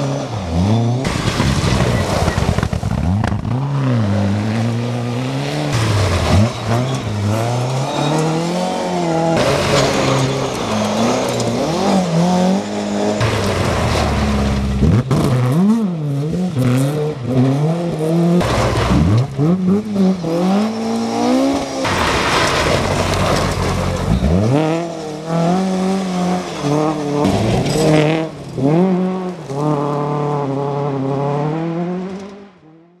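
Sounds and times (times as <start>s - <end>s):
rally car engines revving on gravel: 0.0s - 33.0s.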